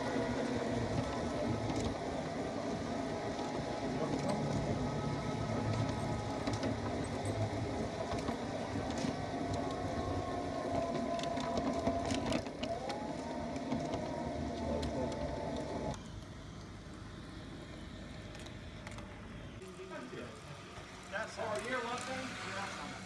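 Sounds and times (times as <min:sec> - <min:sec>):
electric motor whine: 0:00.0 - 0:18.8.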